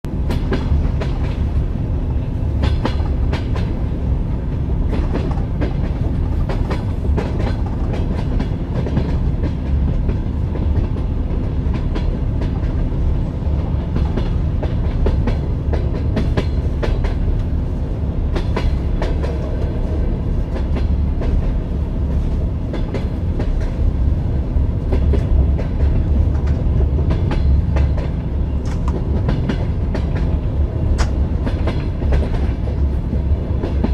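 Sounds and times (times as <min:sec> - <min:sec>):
train wheels clacking over rail joints: 0:00.1 - 0:01.6, 0:02.5 - 0:03.8, 0:04.6 - 0:17.6, 0:18.3 - 0:23.9, 0:24.8 - 0:33.9.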